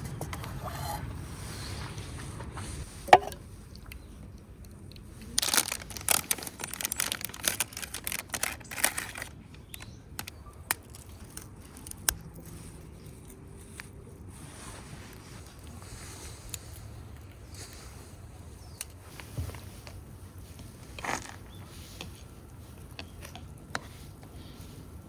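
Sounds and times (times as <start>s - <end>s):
crinkling rustles: 1.8s - 25.0s.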